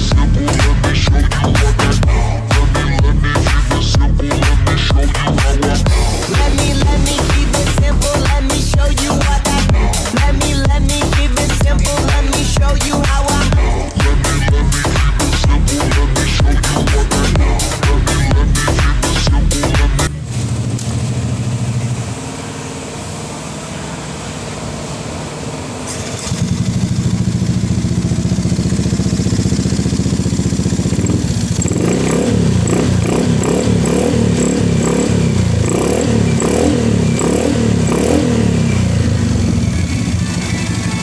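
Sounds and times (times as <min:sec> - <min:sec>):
scooter engine revving: 0:00.0 - 0:41.0.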